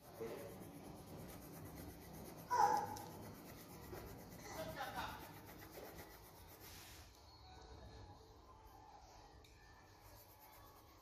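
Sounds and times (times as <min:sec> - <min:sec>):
coloured pencil scratching on paper: 0:00.0 - 0:07.2, 0:08.4 - 0:11.0.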